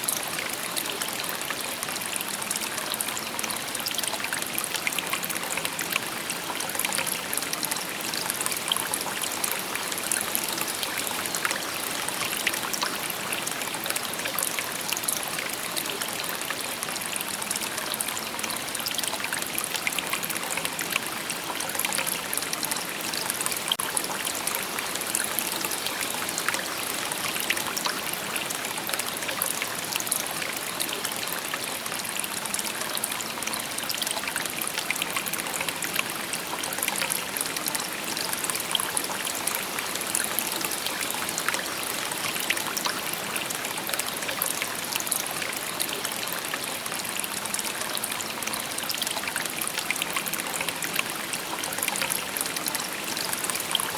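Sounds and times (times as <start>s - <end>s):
stream babbling over stones: 0.0s - 53.9s.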